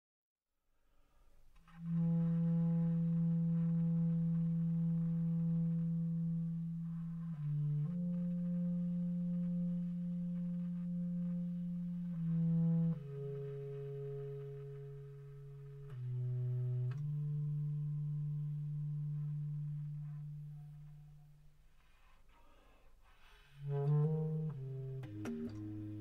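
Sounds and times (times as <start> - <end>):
bass clarinet long low notes: 1.6 - 22.0, 23.5 - 26.0.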